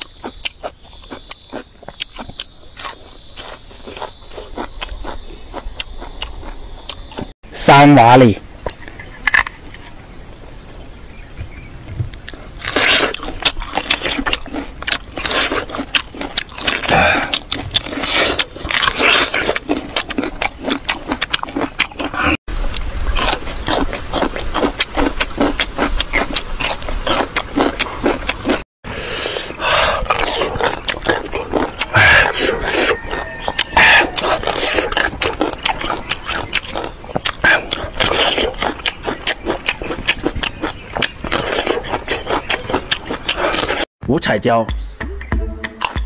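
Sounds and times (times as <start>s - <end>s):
crunching and chewing: 0.0s - 7.4s, 8.3s - 10.0s, 12.1s - 43.9s.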